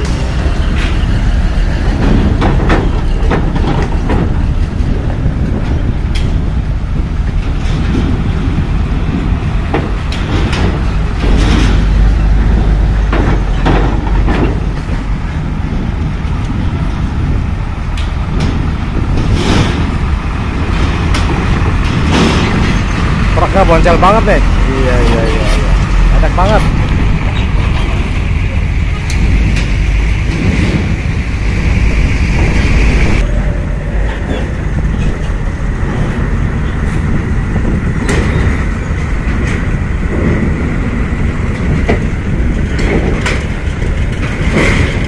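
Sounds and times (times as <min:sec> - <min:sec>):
diesel trucks rumbling: 0:00.0 - 0:45.0.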